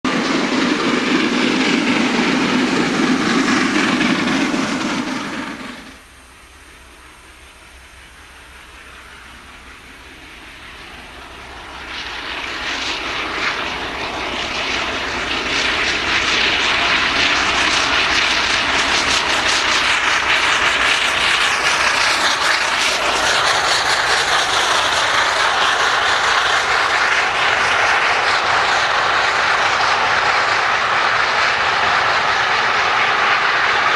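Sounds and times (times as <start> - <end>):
steam train rushing past: 0.0 - 33.9.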